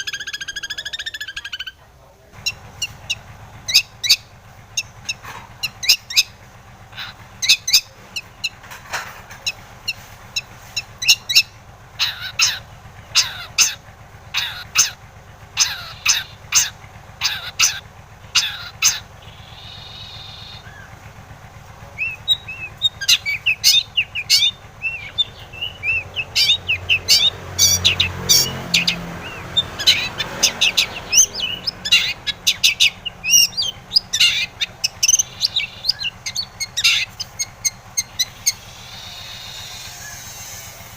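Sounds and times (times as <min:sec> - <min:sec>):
bird singing high calls: 0:00.0 - 0:08.6, 0:09.3 - 0:40.9
steady low hum: 0:00.0 - 0:40.9.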